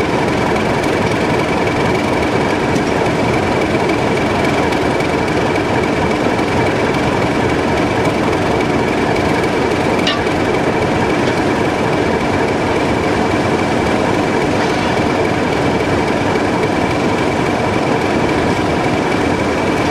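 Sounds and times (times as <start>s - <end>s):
diesel engine running: 0.0s - 19.9s
steam hissing: 0.0s - 19.9s.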